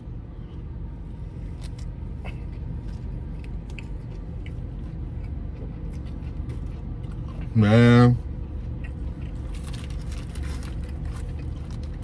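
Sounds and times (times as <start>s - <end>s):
low car interior hum: 0.0s - 12.0s
man chewing food: 0.4s - 7.6s, 8.2s - 12.0s.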